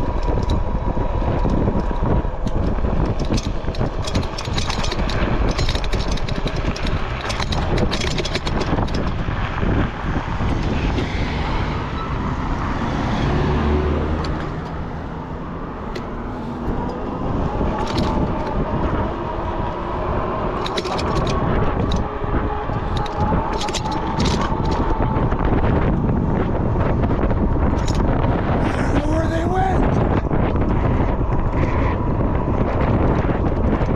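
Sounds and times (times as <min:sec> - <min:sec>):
bike clicks and rattles: 0:00.0 - 0:11.3, 0:14.2 - 0:33.9
wind and road rush: 0:00.0 - 0:33.9.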